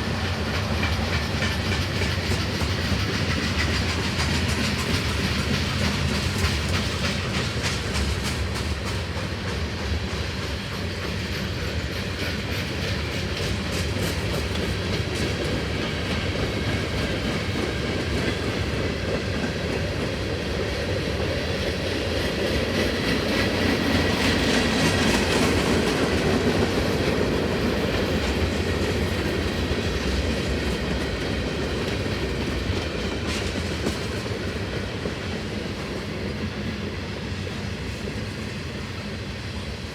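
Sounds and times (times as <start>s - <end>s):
train wheels clickety-clack on rails: 0.0s - 39.9s.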